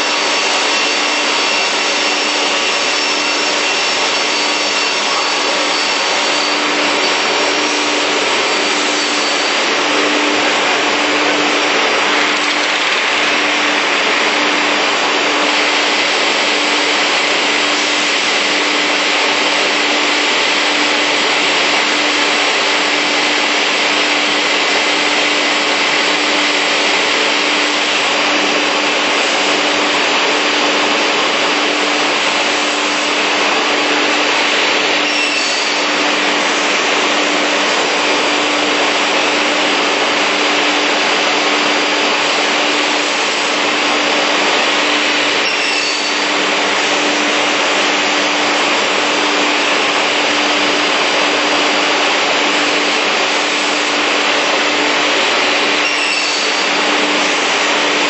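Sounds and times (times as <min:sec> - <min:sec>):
beam saw whirring: 0:00.0 - 0:58.0.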